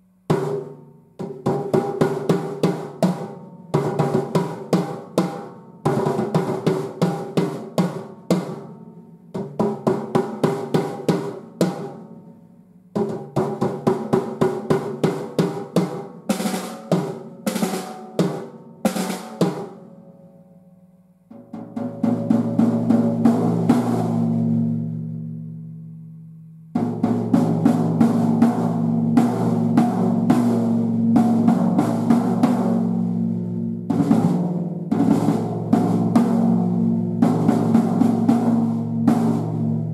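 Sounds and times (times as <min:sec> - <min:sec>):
drum kit playing: 0:00.0 - 0:12.1, 0:13.0 - 0:19.8, 0:21.3 - 0:25.2, 0:26.6 - 0:39.9
drum roll: 0:00.2 - 0:12.0, 0:13.0 - 0:19.9, 0:21.3 - 0:25.0, 0:26.7 - 0:39.9.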